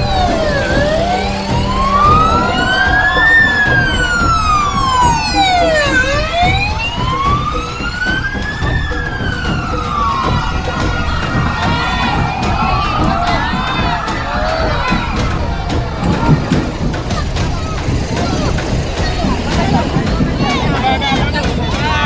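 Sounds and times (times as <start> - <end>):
emergency siren wailing: 0.0 - 17.9.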